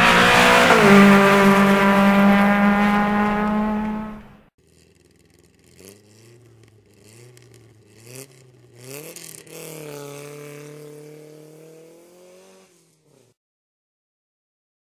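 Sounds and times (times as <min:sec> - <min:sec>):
race car engine revving: 0:00.0 - 0:13.4.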